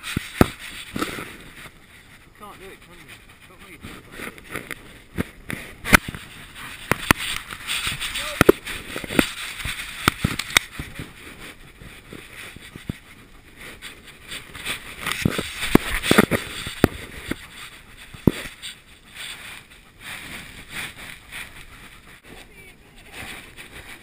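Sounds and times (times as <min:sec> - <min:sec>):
dog panting: 0:00.6 - 0:24.0.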